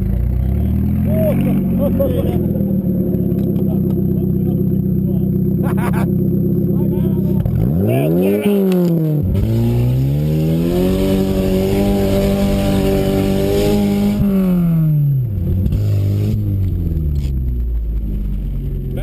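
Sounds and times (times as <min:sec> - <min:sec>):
gravel under tyres: 0:00.0 - 0:14.1, 0:14.8 - 0:19.0
car engine revving: 0:00.0 - 0:19.0.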